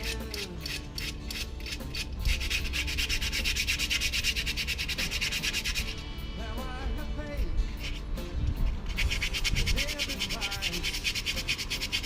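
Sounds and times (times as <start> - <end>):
sandpaper scratching rusty metal: 0.0 - 6.1, 7.6 - 12.0.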